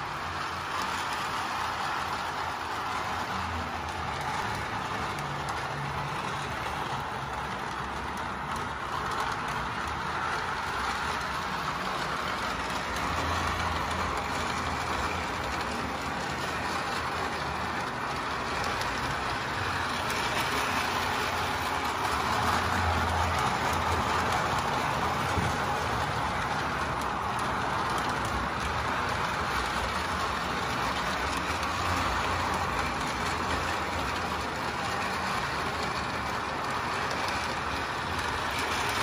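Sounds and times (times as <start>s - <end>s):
toy train motor hum: 0.0s - 39.0s
wheels rolling on rails: 0.0s - 39.0s.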